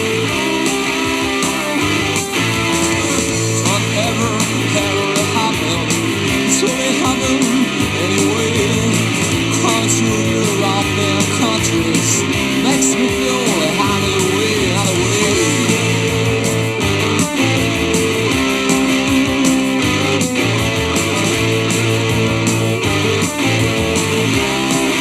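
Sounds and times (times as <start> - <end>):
lead guitar bending notes: 0.0 - 25.0
rock band playing: 0.0 - 25.0
steady bass line: 0.0 - 25.0.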